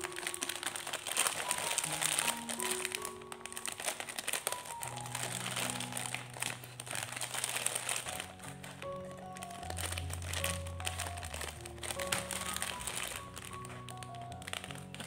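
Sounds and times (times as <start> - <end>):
background music with held notes: 0.0 - 15.0
plastic packets crinkling: 0.0 - 15.0
scissors snipping plastic: 0.0 - 15.0.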